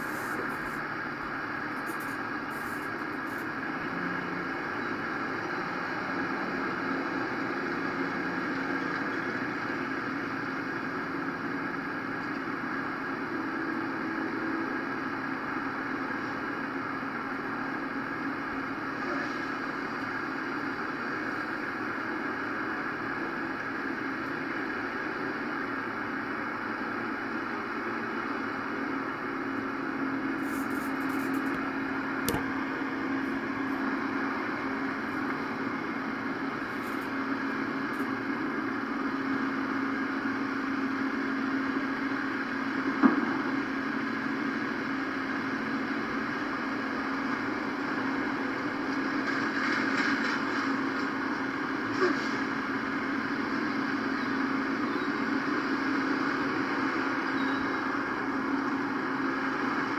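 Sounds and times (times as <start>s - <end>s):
mechanical hum and hiss: 0.0s - 59.9s.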